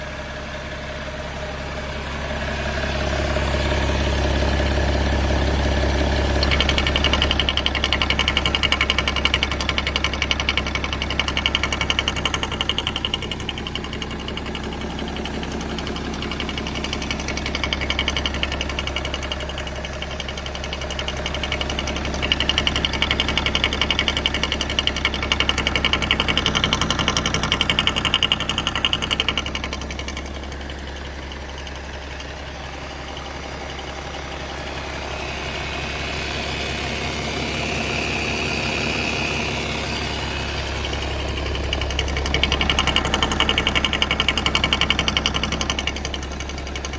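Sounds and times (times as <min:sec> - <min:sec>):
diesel engine idling with knocking: 0:00.0 - 0:46.9.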